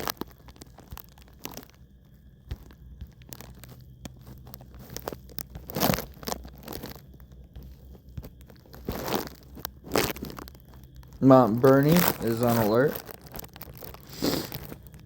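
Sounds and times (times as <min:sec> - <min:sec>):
rustling close to microphone: 0:00.0 - 0:15.0.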